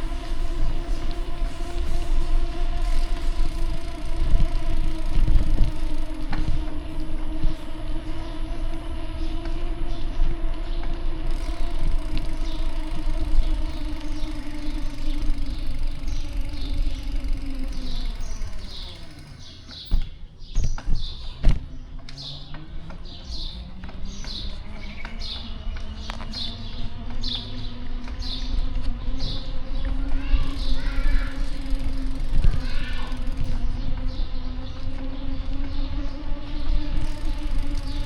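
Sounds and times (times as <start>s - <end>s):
vehicle engine rumbling: 0.0s - 38.0s.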